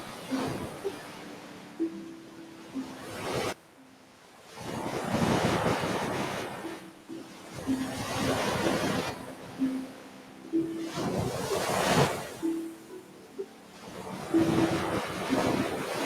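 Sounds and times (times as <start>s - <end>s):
ocean waves rushing onto beach: 0.0s - 16.0s.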